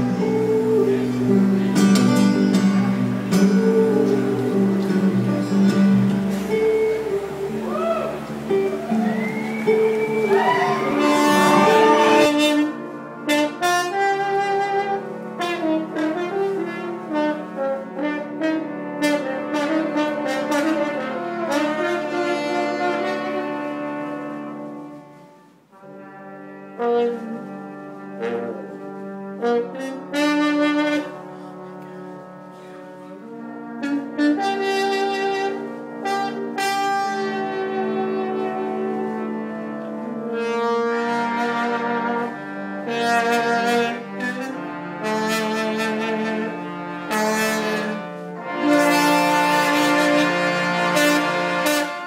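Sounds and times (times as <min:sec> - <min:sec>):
brass horn lead: 0:00.0 - 0:52.0
live jazz ensemble playing: 0:00.0 - 0:52.0.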